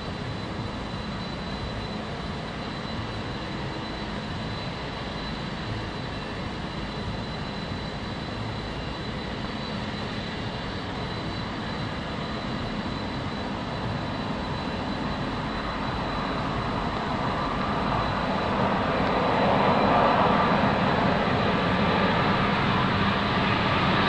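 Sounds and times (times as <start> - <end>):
jet engines rushing with high whine: 0.0 - 24.0.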